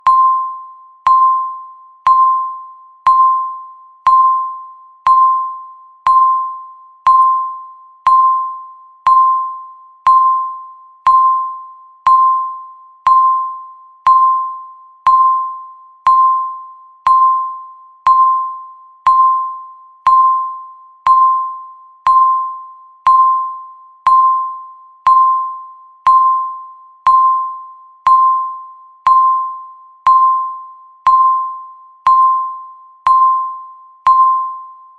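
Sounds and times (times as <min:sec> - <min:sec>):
short electronic timer beeps: 0:00.0 - 0:34.9.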